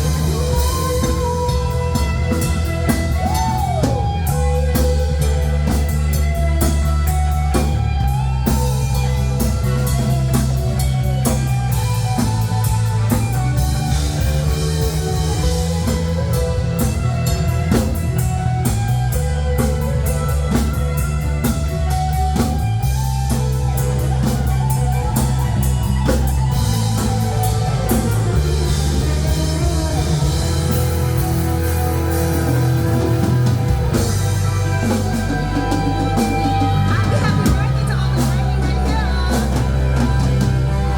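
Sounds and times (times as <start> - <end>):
bass line: 0.0 - 40.9
drum kit: 0.0 - 40.9
guitar: 0.0 - 40.9.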